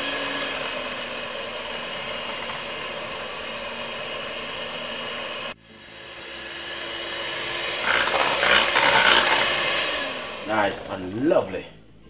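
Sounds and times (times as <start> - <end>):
electric hand mixer whisking: 0.0 - 11.2.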